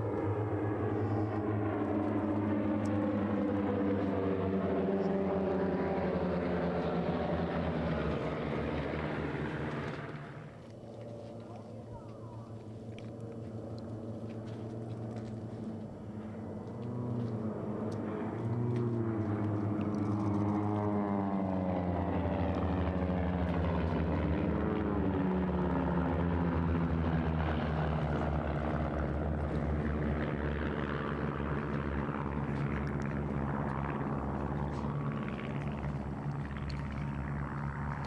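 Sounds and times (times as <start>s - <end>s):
propeller airplane engines: 0.0s - 38.0s.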